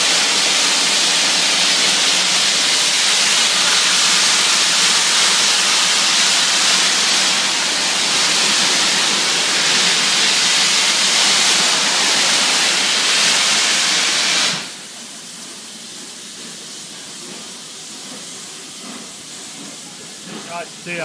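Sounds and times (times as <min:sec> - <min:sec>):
steam locomotive hissing steam: 0:00.0 - 0:21.0.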